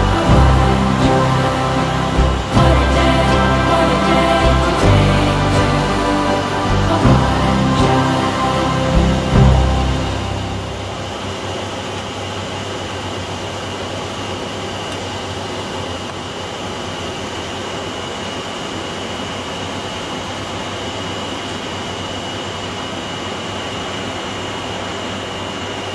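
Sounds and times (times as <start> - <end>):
high-pitched whine: 0.0 - 25.9
propeller engine drone: 0.0 - 25.9.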